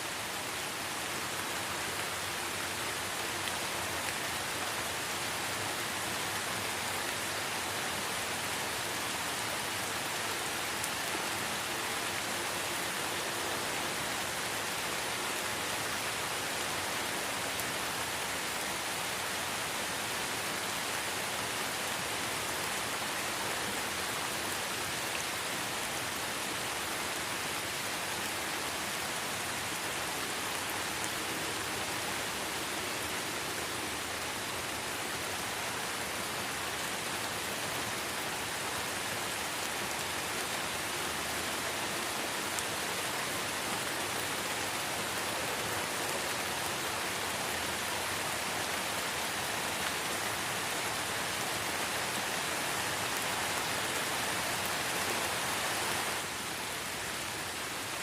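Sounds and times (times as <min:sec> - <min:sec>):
light rain on foliage: 0:00.0 - 0:58.0.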